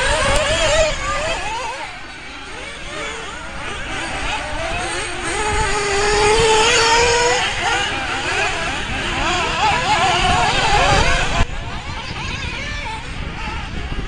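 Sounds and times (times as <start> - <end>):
buggy passing close: 0.0 - 14.0
radio-controlled buggy engines racing: 0.0 - 14.0.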